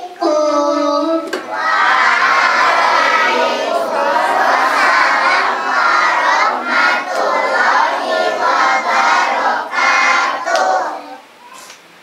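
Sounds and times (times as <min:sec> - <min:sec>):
children chanting: 0:01.4 - 0:11.2.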